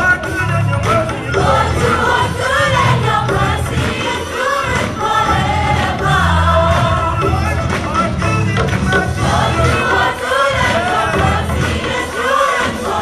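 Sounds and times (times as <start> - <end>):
band with bass line: 0.0 - 12.0
gospel choir singing: 0.8 - 13.0.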